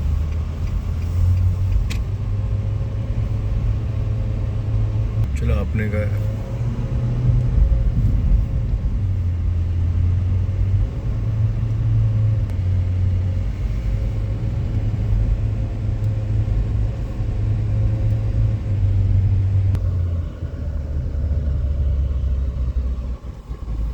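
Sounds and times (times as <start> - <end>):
car engine and road noise: 0.0 - 23.9.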